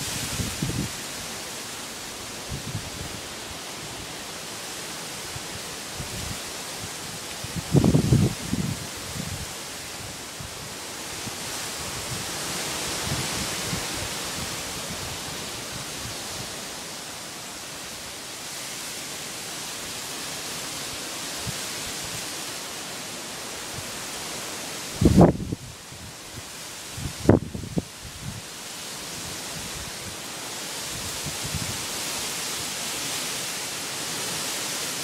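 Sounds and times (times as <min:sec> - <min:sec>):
wind rustling through leaves: 0:00.0 - 0:35.0.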